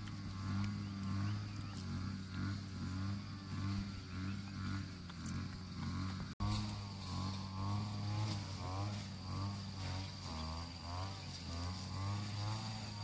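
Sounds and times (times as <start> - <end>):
engine running: 0.0 - 13.0
high insect whine: 0.0 - 13.0.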